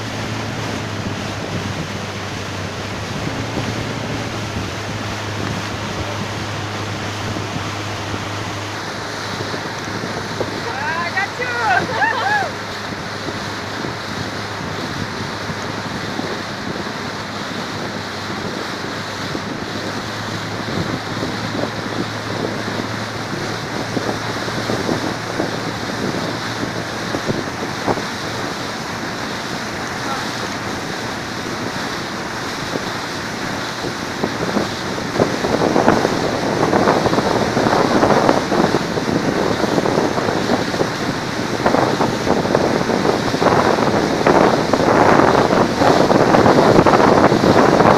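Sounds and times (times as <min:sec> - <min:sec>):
waves washing around boat: 0:00.0 - 0:47.9
wind buffeting microphone: 0:00.0 - 0:47.9.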